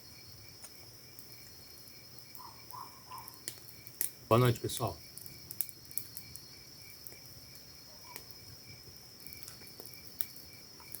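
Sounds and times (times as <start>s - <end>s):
crickets trilling: 0.0s - 11.0s
low insect chirps: 0.0s - 11.0s.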